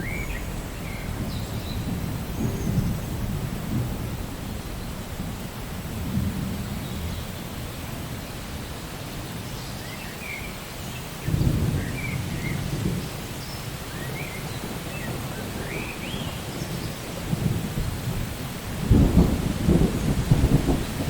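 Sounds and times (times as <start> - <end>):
thunder rumble: 0.0 - 8.4, 11.2 - 21.0
steady rain: 0.0 - 21.0.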